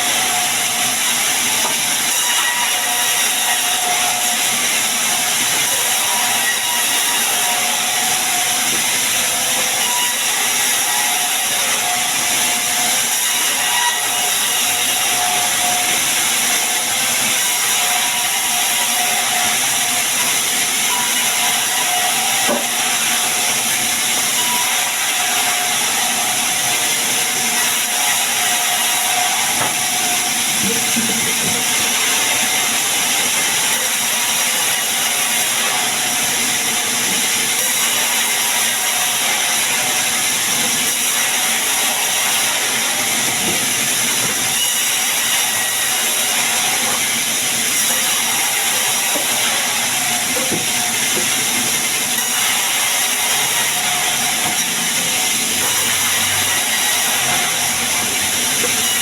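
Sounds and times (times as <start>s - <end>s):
sawmill saw cutting wood: 0.0s - 59.0s.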